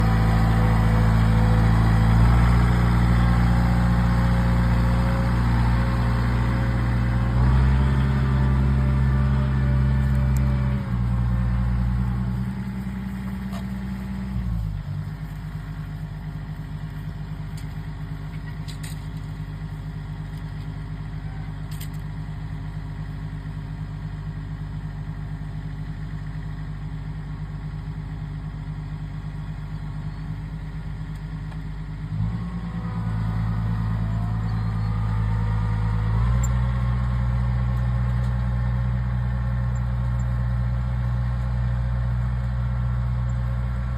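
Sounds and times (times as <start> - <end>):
farm machine engine running: 0.0 - 43.9.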